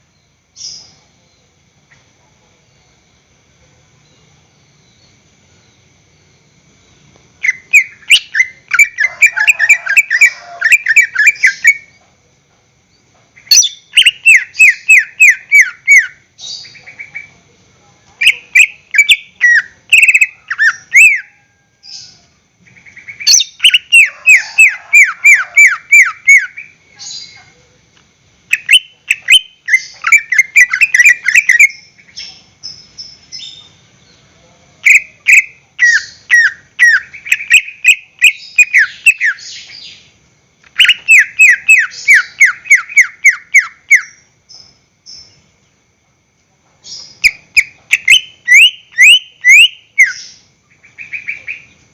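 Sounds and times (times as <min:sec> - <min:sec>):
bird singing: 0:00.0 - 0:02.1, 0:03.9 - 0:12.2, 0:12.9 - 0:27.9, 0:28.5 - 0:45.9, 0:46.8 - 0:51.9.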